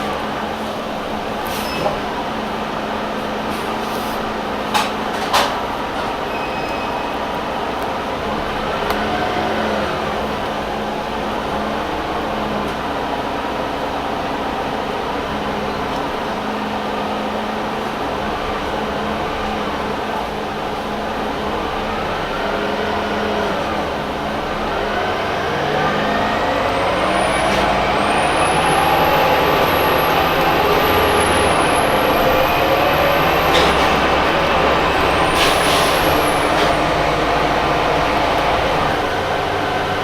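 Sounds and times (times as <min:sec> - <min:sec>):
bus engine accelerating: 0:00.0 - 0:40.0.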